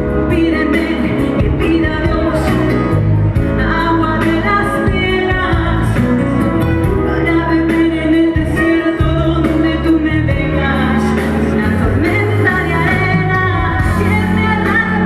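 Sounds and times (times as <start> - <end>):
live pop-rock band: 0.0 - 15.0.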